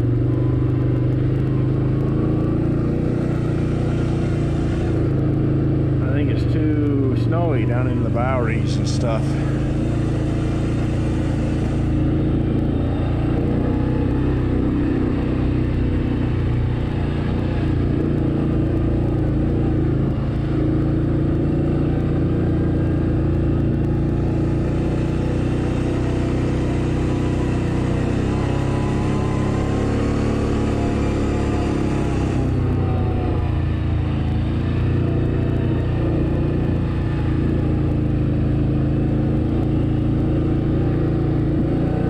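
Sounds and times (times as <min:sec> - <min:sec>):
atv engine running on gravel: 0:00.0 - 0:42.0.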